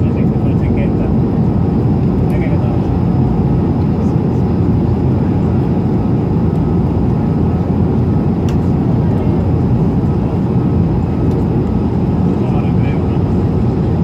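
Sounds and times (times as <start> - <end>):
airflow rushing in cabin: 0.0 - 14.0
jet engines humming: 0.0 - 14.0.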